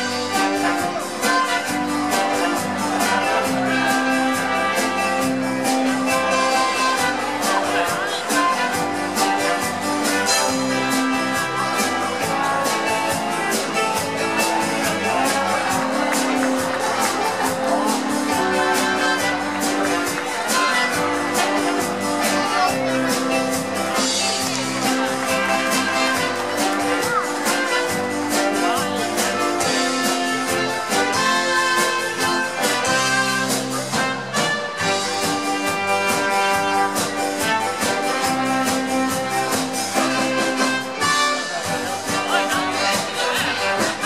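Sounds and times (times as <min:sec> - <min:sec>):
circus band music: 0:00.0 - 0:44.0.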